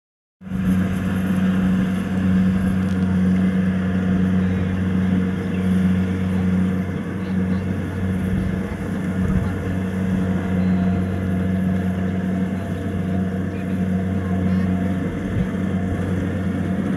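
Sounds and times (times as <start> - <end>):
combine harvester engine droning: 0.4 - 16.9.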